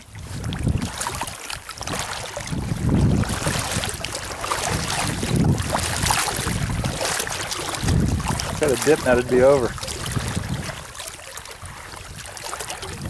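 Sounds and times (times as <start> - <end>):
river water lapping and rushing: 0.0 - 13.0
wind buffeting microphone: 0.0 - 13.0.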